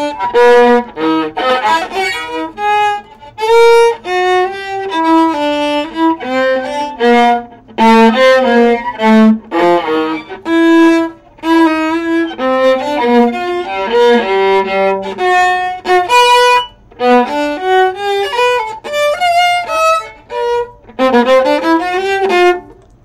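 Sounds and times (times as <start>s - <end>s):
bowed viola melody: 0.0s - 22.9s.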